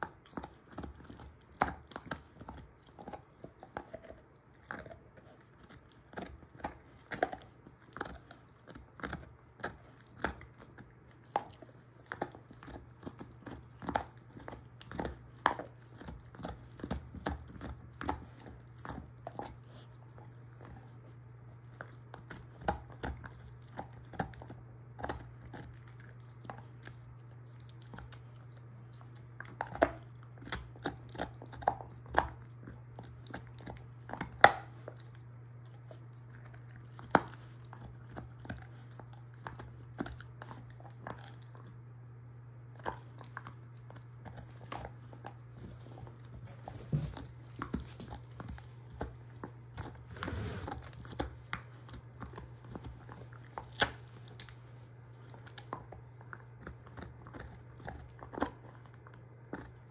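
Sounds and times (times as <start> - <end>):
dog teeth crunching bone: 0.0 - 59.9
steady low hum: 0.0 - 59.9.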